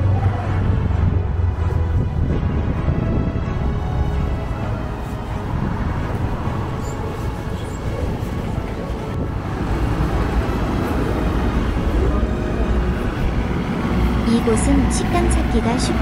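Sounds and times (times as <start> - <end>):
background music: 0.0 - 16.0
road traffic rumble: 0.0 - 16.0.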